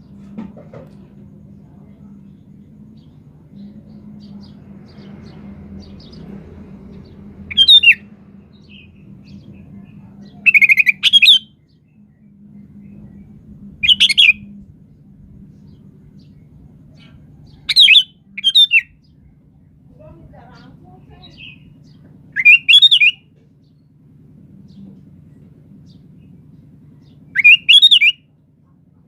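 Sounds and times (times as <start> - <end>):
low steady hum: 0.0 - 29.0
bird singing chirpy phrases: 1.7 - 14.5, 15.4 - 23.7, 25.8 - 28.2.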